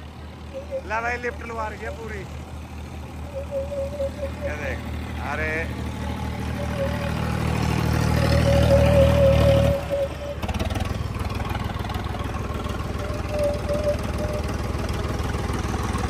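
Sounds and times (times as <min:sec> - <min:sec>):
thin whine: 0:00.0 - 0:02.3, 0:03.1 - 0:16.0
diesel tractor engine straining: 0:00.0 - 0:16.0.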